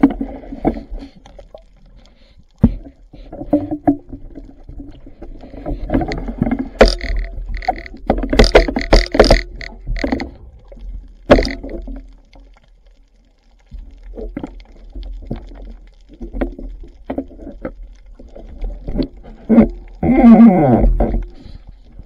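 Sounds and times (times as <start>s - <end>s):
underwater clicks and knocks: 0.0s - 1.8s, 2.6s - 13.0s, 13.6s - 22.0s
low rumble of water: 0.0s - 22.0s.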